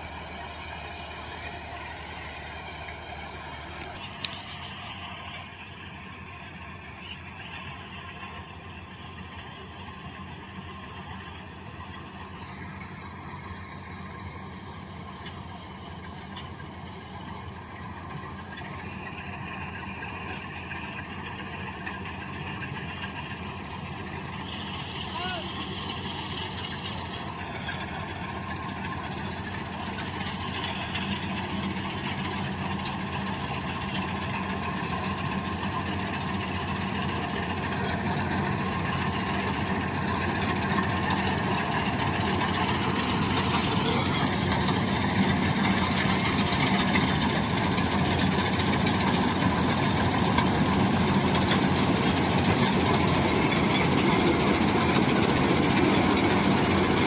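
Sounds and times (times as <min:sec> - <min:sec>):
combine harvester engine running: 0:00.0 - 0:57.0.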